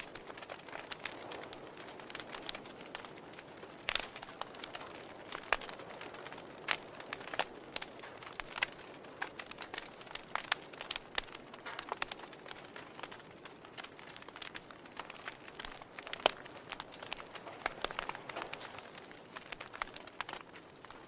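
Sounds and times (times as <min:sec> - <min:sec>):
campfire crackling and popping: 0:00.0 - 0:21.0
soft steady hiss: 0:00.0 - 0:21.0.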